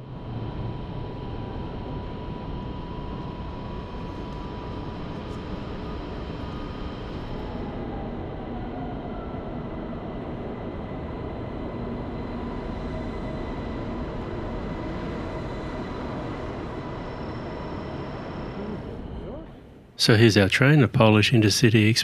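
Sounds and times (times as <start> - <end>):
faint whining tones: 0.1 - 21.2.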